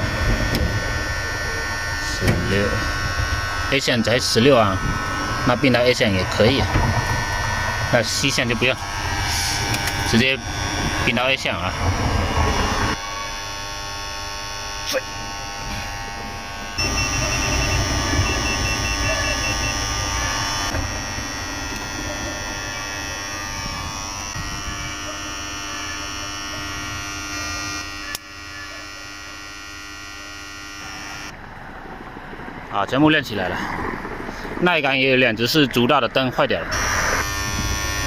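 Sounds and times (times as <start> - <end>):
electrical contactors humming: 0.0 - 38.0.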